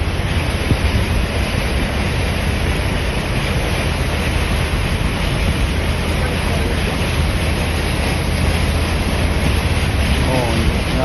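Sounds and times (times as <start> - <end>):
heavy rain rushing: 0.0 - 11.0
wind rumble on microphone: 0.0 - 11.0.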